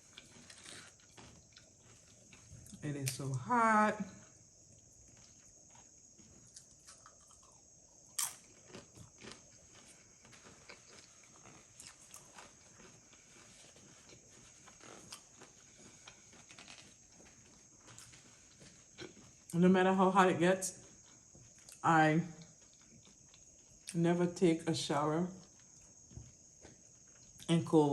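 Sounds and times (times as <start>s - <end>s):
tortilla chips being chewed: 0.0s - 3.4s, 4.2s - 19.6s, 20.7s - 24.0s, 25.4s - 27.5s.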